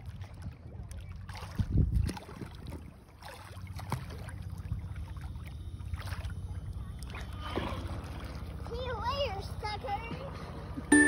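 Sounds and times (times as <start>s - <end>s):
water splashing: 0.0s - 10.8s
sea scooter low rumble: 0.0s - 11.0s.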